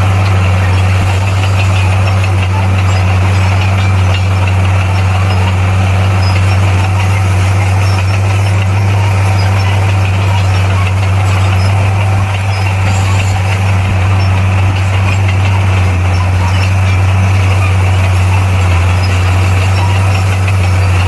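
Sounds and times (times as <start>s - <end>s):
bulldozer diesel engine droning: 0.0s - 21.0s.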